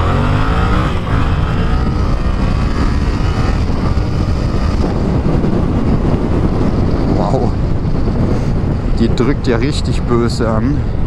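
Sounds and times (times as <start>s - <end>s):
motorcycle engine accelerating: 0.0s - 9.0s.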